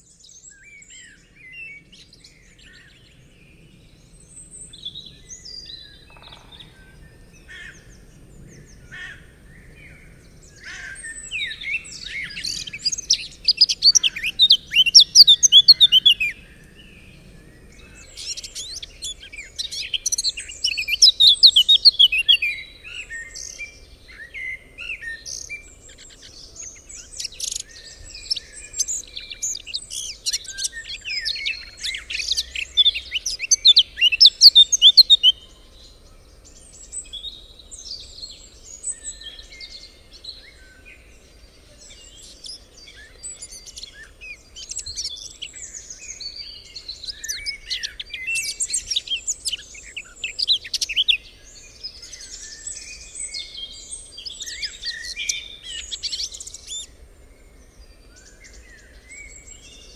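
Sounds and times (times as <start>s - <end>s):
faint low background noise: 0.0s - 59.9s
birds chirping: 4.3s - 59.9s.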